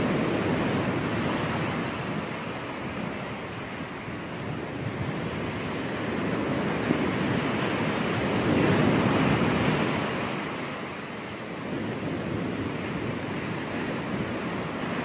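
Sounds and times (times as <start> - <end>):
wave breaking on shore: 0.0 - 15.0.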